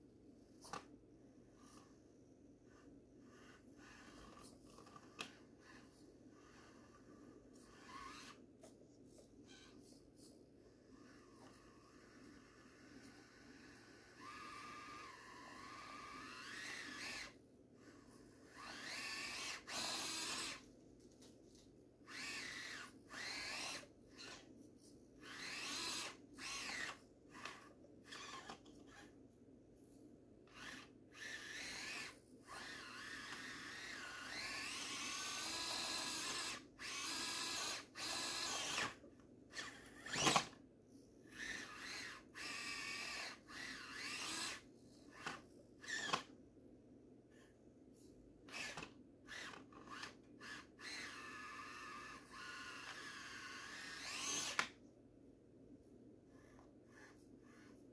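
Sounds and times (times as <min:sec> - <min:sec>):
small electric motor whining: 0:02.6 - 0:08.8, 0:09.4 - 0:20.7, 0:22.0 - 0:24.6, 0:25.2 - 0:29.2, 0:30.4 - 0:40.6, 0:41.3 - 0:46.3, 0:48.5 - 0:54.8, 0:56.3 - 0:57.8.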